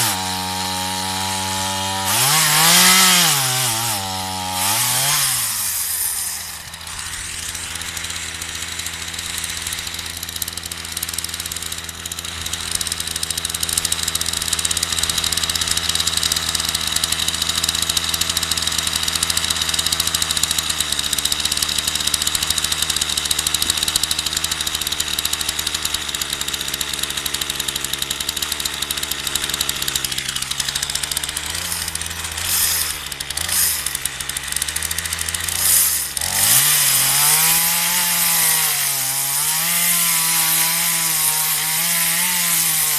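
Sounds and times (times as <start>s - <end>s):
chainsaw engine idling and revving: 0.0s - 42.9s.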